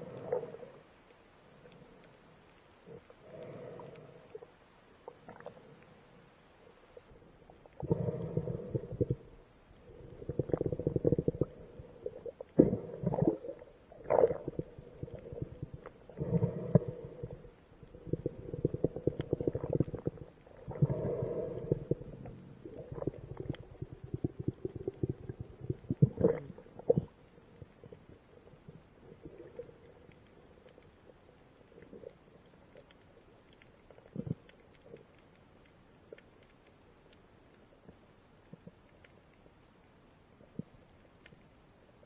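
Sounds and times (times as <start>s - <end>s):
underwater rumbling and crackling: 0.0s - 42.0s.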